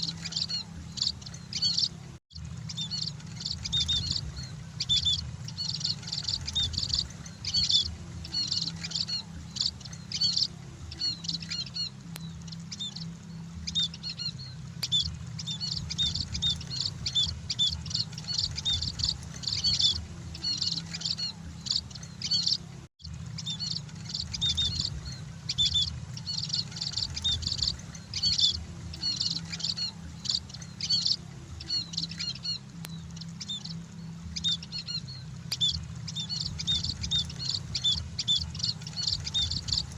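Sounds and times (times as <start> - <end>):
birds chirping in high calls: 0.0 - 39.9
steady low hum: 0.0 - 39.9.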